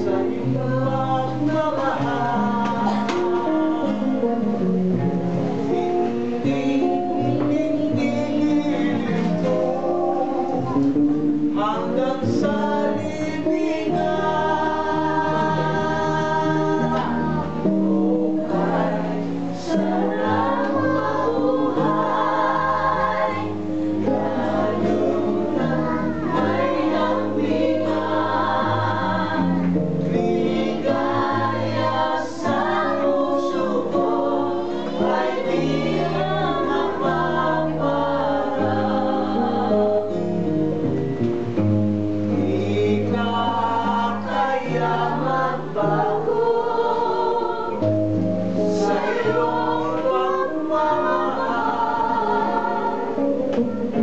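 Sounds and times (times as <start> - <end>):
group singing together: 0.0 - 54.0.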